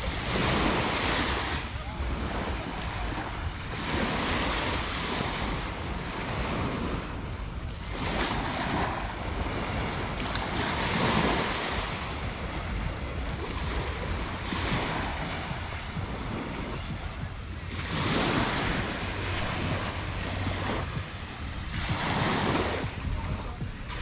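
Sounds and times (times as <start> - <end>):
small waves breaking on sand: 0.0 - 24.0
wind rumbling on microphone: 0.0 - 24.0.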